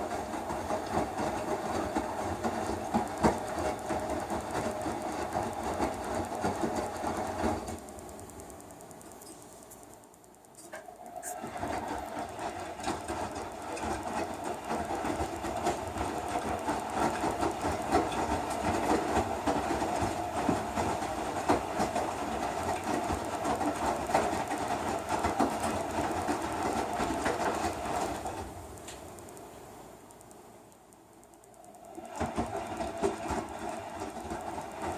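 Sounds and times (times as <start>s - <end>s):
washing machine churning: 0.0s - 30.3s, 30.9s - 34.9s
fast rattling clicks: 1.9s - 34.9s.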